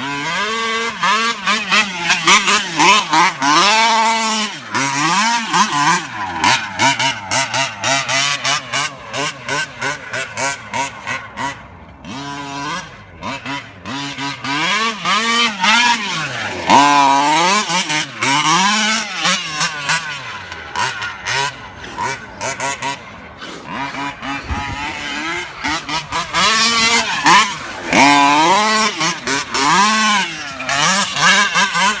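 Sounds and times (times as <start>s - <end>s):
rc truck engine revving: 0.0s - 32.0s.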